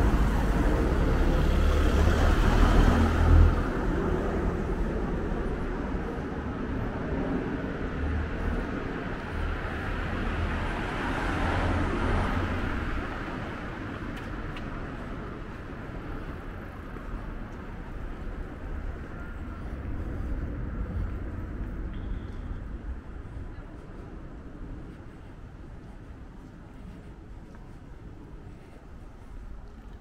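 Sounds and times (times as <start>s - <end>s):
low road noise: 0.0s - 30.0s.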